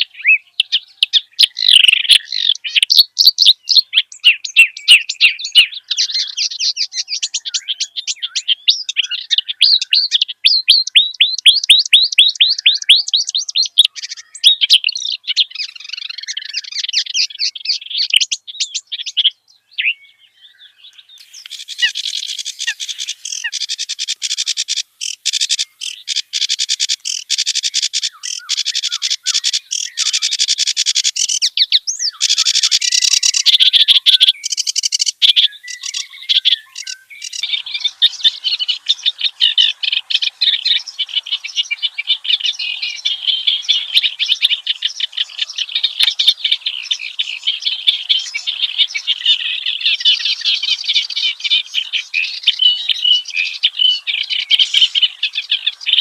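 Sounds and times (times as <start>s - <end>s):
reed warbler chattering song: 0.0s - 56.0s.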